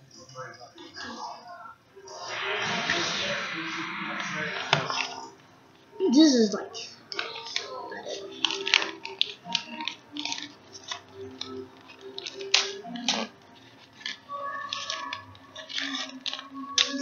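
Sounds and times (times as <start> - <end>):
background music: 2.0 - 17.0.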